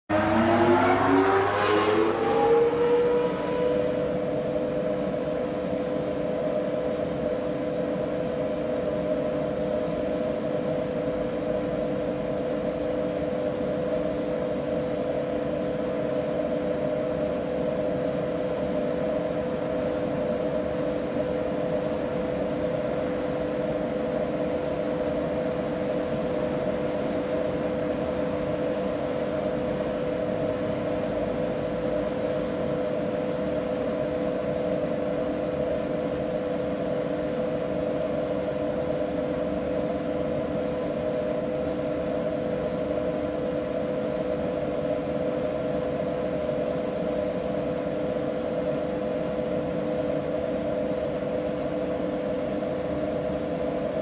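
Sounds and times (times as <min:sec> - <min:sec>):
exhaust fans whining: 0:00.0 - 0:54.0.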